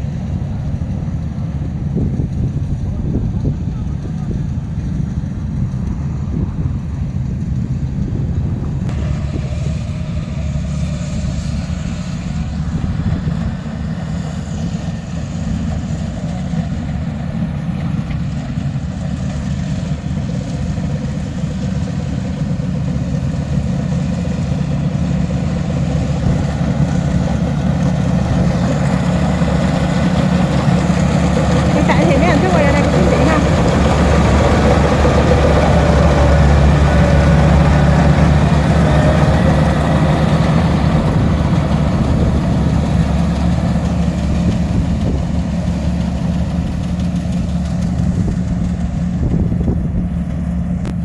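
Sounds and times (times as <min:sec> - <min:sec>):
heavy farm machine engine: 0:00.0 - 0:51.0.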